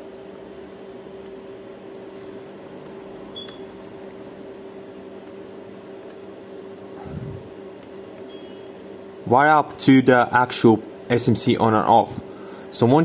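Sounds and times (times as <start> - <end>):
electrical equipment humming: 0.0 - 13.0.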